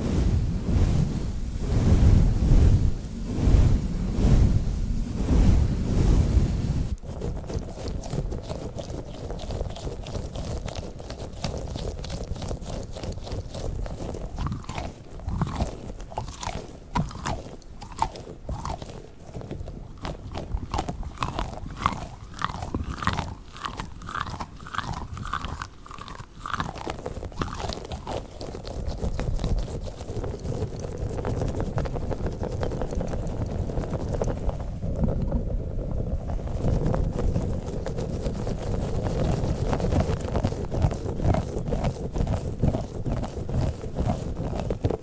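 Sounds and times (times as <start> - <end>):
squishy balls squishing: 6.9 - 35.4, 36.2 - 45.0.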